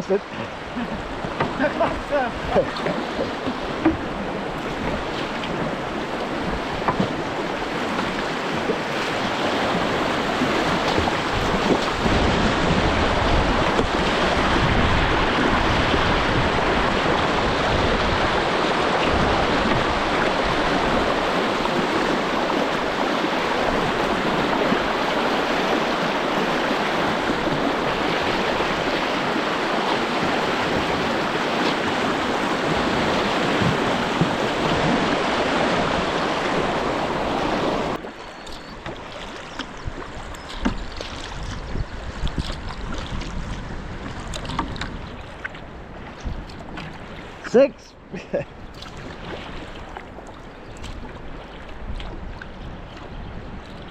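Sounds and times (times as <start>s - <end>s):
water rushing over river rapid: 0.0s - 53.9s.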